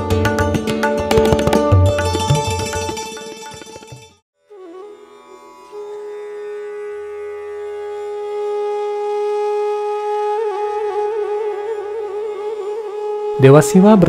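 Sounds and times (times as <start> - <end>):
wind instrument melody: 1.9 - 14.0.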